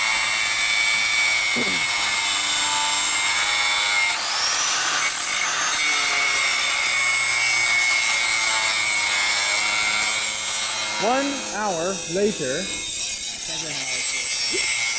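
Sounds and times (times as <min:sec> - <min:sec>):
angle grinder cutting steel: 0:00.0 - 0:14.9.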